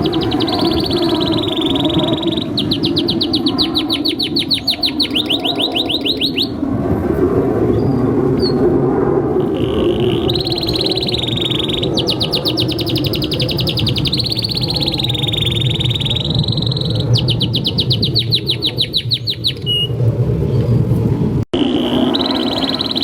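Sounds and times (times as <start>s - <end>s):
canary singing: 0.0s - 6.6s, 9.4s - 20.0s, 21.6s - 23.0s
steady low hum: 0.0s - 23.0s.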